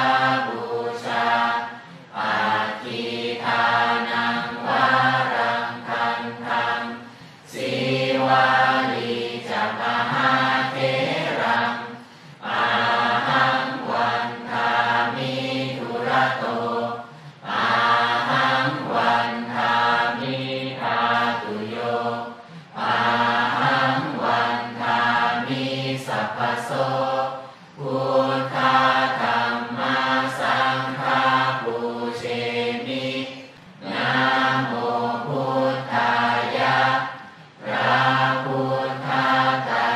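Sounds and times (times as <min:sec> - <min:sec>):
many voices chanting in unison: 0:00.0 - 0:39.9.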